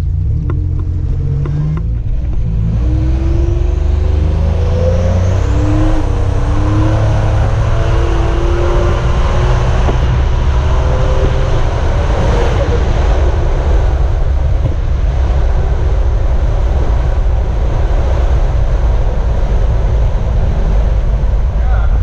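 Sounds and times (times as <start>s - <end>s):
car engine running: 0.0s - 22.0s
road and air noise: 0.0s - 22.0s.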